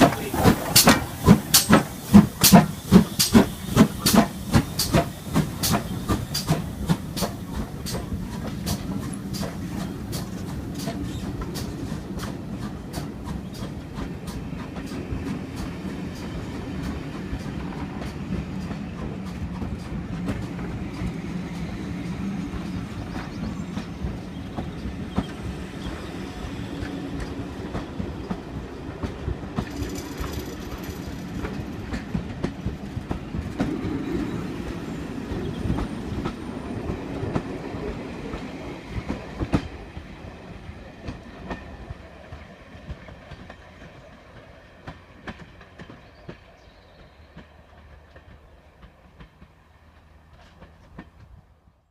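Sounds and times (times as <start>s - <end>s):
train wheels clicking on rails: 0.0s - 51.8s
train rumble: 0.0s - 51.9s.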